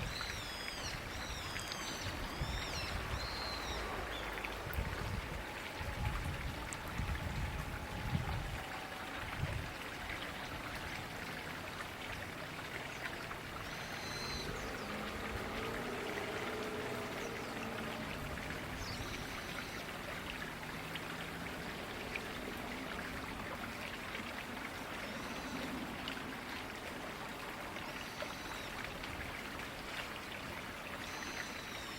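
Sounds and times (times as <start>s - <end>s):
river water running: 0.0s - 31.9s.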